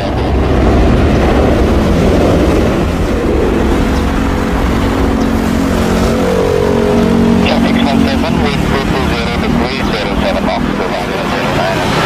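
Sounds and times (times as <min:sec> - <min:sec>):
aircraft engine roar: 0:00.0 - 0:12.0
steady hum: 0:00.0 - 0:12.0.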